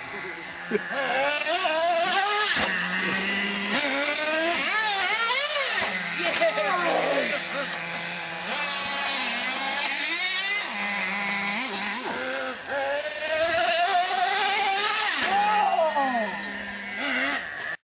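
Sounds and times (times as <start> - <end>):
rising engine whine: 0.0 - 17.8
small nitro engines revving: 0.0 - 17.8.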